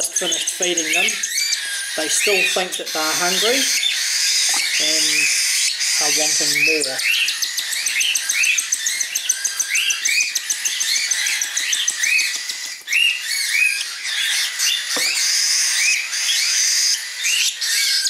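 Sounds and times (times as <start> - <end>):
chicks begging squawks: 0.0 - 18.0.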